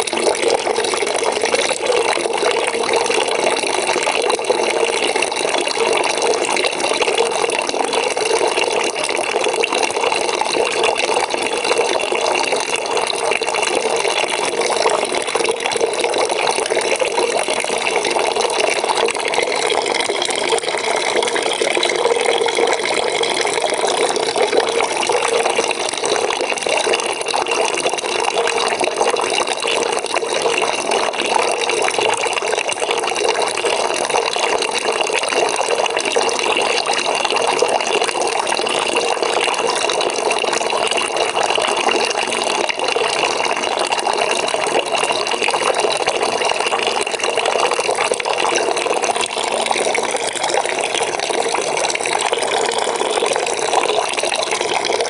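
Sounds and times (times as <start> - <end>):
tap water running into a bucket: 0.0 - 55.0.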